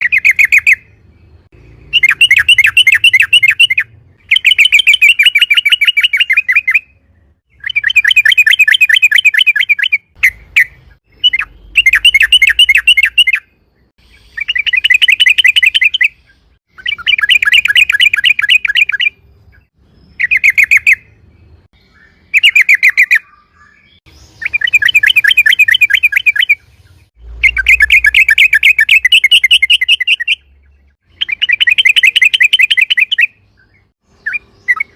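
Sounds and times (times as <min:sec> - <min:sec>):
bulbul rolling chatter song: 0:00.0 - 0:34.9.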